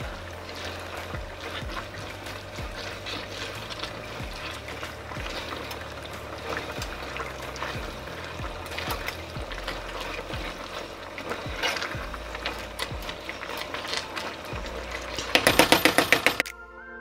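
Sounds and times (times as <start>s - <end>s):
wet stirring of pasta: 0.0s - 16.5s.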